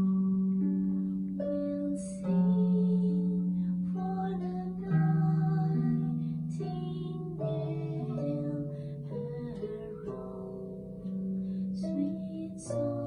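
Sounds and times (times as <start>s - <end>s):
plucked harp: 0.0s - 13.0s.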